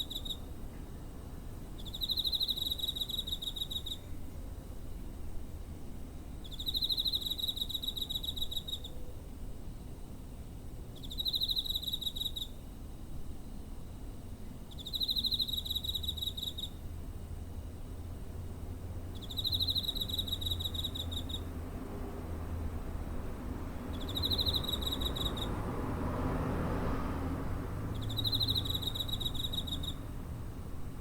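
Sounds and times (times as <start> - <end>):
cricket trilling: 0.0 - 5.2, 6.2 - 31.0.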